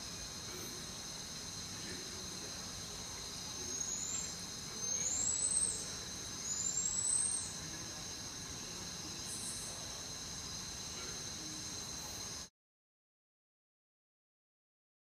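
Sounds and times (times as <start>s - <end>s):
cricket-like chirring: 0.0s - 12.5s.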